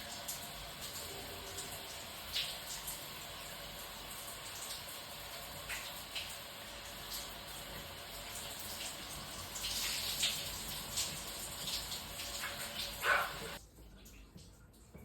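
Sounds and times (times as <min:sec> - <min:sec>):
cat urinating: 0:00.0 - 0:15.0.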